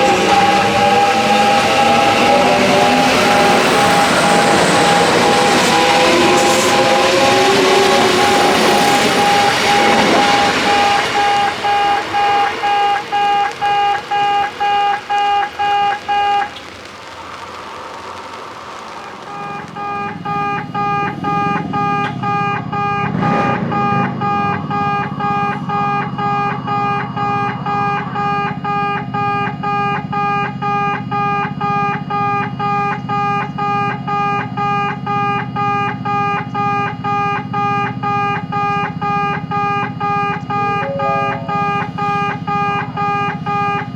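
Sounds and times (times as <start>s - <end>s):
level crossing alarm tone: 0.0s - 16.6s, 19.3s - 43.9s.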